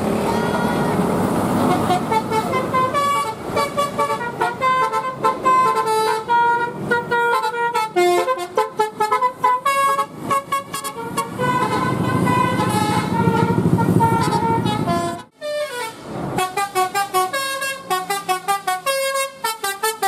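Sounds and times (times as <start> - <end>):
bus horn playing melody: 1.6 - 20.0.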